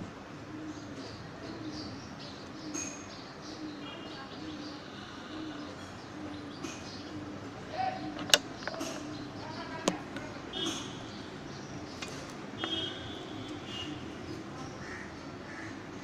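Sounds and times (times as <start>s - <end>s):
faint voices: 0.3s - 16.0s
bird calls: 0.5s - 16.0s.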